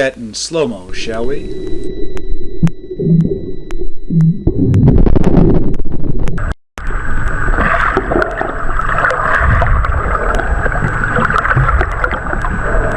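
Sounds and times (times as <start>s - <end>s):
underwater low rumble with clicks: 1.1s - 12.9s.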